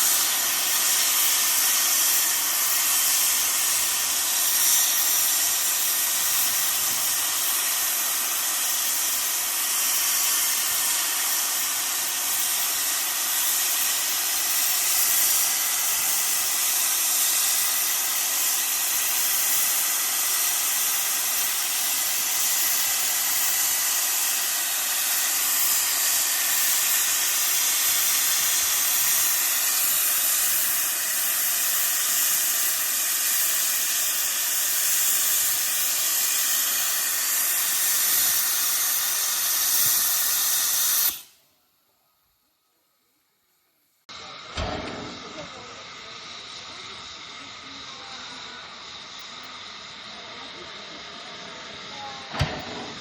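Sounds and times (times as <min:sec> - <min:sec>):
steam venting loud hiss: 0:00.0 - 0:41.5, 0:44.1 - 0:53.0.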